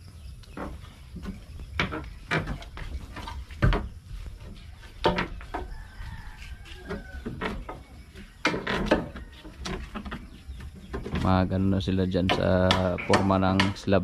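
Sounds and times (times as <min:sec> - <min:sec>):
wooden boards knocking: 0:00.6 - 0:06.2, 0:06.9 - 0:14.0.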